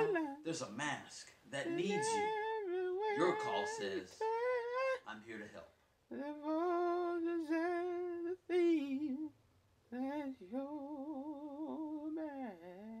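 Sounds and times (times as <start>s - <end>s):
person singing wordless notes: 0.0s - 5.4s, 6.1s - 13.0s.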